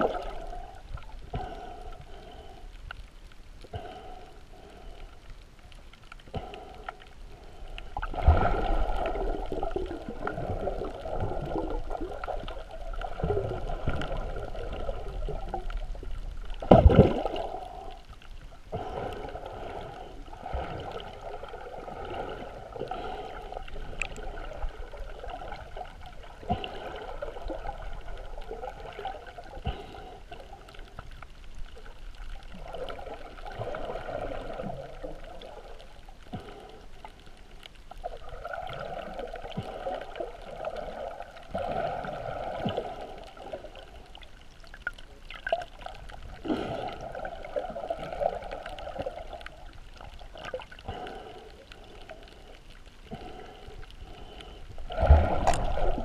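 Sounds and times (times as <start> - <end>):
underwater swishing and gurgling: 0.0 - 56.0.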